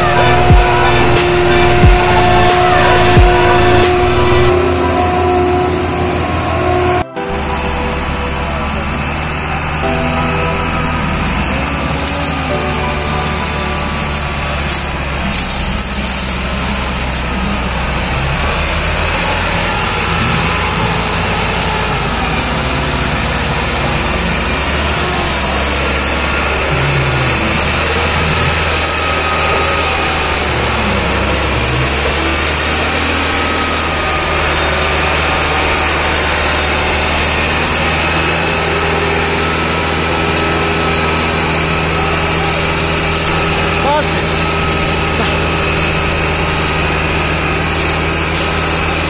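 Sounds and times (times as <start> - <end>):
tractor diesel engine straining: 0.0 - 49.0.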